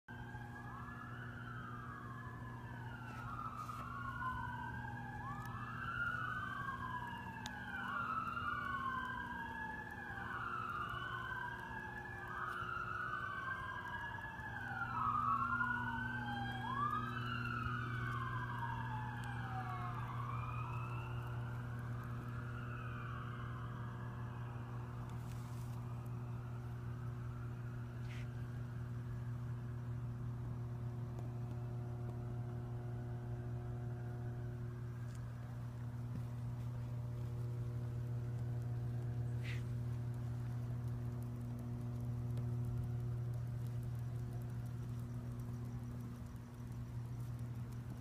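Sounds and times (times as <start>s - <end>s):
emergency vehicle siren wailing: 0.1s - 48.0s
steady low hum: 0.1s - 48.0s.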